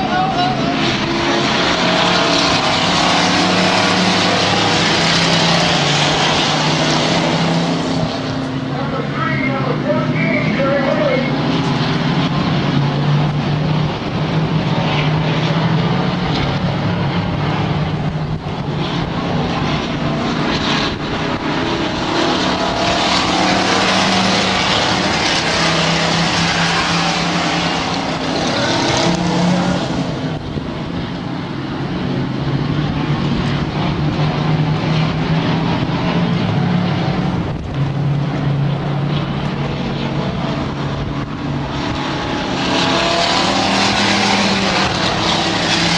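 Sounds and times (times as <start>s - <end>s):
racing truck engines droning: 0.0s - 45.9s.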